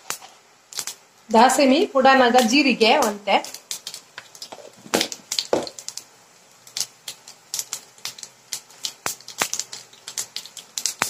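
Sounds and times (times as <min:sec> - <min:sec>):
seeds spluttering in hot oil: 0:00.0 - 0:11.0.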